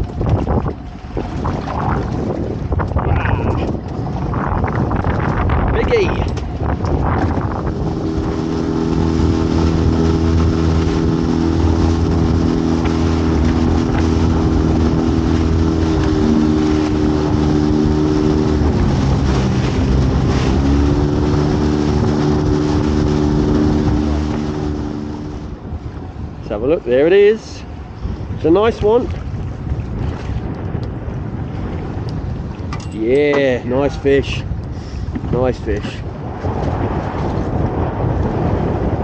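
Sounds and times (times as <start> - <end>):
boat engine running: 0.0 - 39.0.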